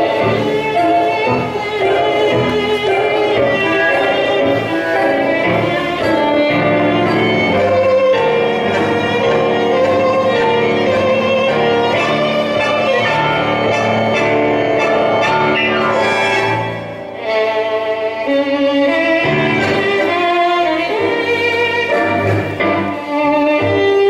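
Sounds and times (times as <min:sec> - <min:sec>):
bowed violin: 0:00.0 - 0:24.0
live tango trio: 0:00.0 - 0:24.0.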